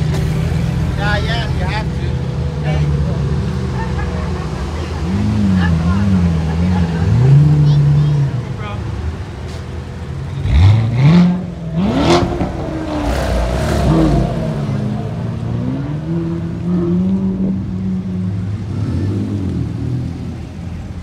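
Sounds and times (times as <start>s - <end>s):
sports car engines revving: 0.0s - 21.0s.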